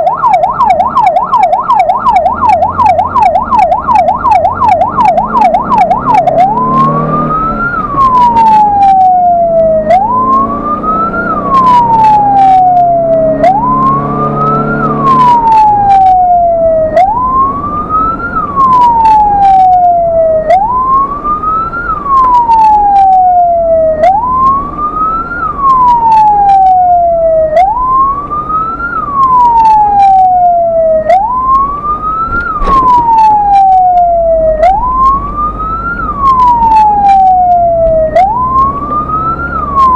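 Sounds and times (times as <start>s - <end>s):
ambulance siren yelp and wail: 0.0s - 39.9s.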